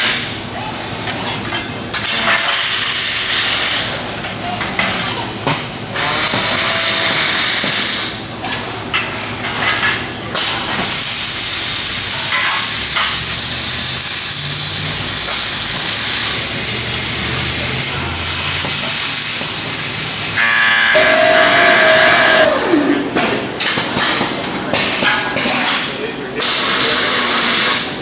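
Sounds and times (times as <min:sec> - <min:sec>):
welding arc sizzling hiss: 0:01.6 - 0:04.3, 0:05.8 - 0:08.4, 0:09.2 - 0:28.0.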